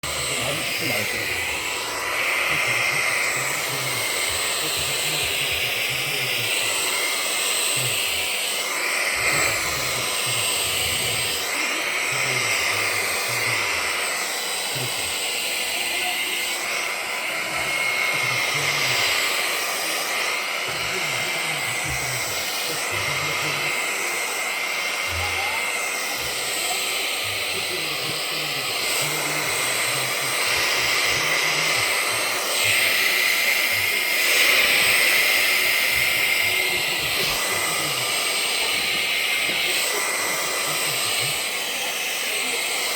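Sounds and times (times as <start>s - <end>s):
vacuum cleaner suction hiss: 0.0s - 42.9s.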